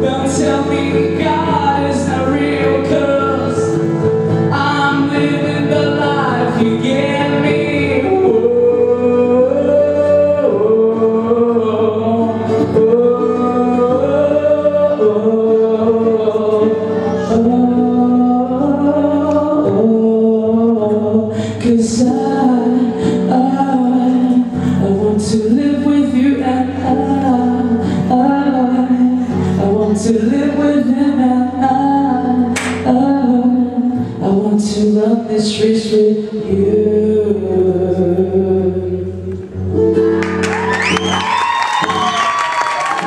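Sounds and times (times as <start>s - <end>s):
man singing: 0.0s - 39.7s.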